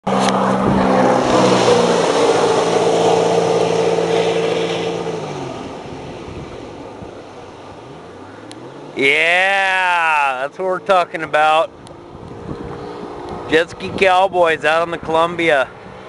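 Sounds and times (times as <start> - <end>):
jet ski engine: 0.0 - 16.0.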